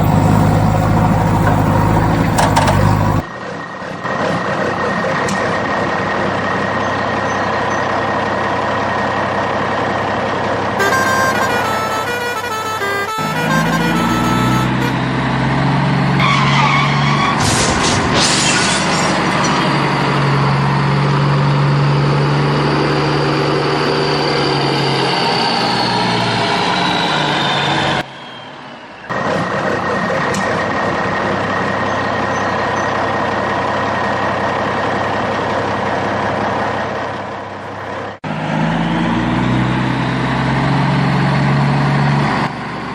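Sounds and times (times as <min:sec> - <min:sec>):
heavy vehicle engine humming: 0:00.0 - 0:42.9.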